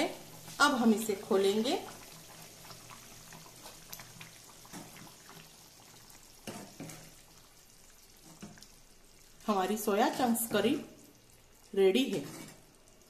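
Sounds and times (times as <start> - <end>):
gravy bubbling and popping: 0.0 - 13.0.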